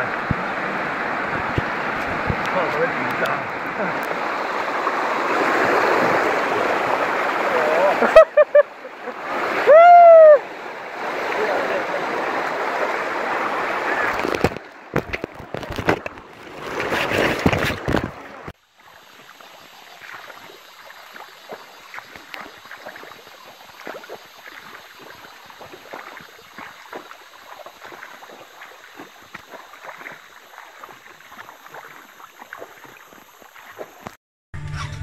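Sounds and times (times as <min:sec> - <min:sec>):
gentle lapping water: 0:00.0 - 0:34.2
river water rushing and sloshing: 0:00.0 - 0:34.2.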